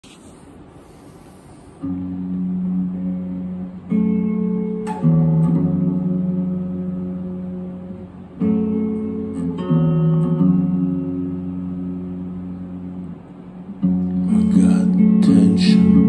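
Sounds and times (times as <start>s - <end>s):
electric guitar chords ringing: 1.8s - 16.0s.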